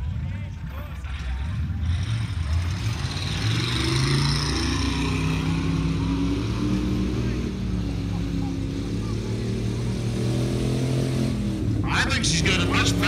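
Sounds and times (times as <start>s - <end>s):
car engine revving hard: 1.9s - 13.0s.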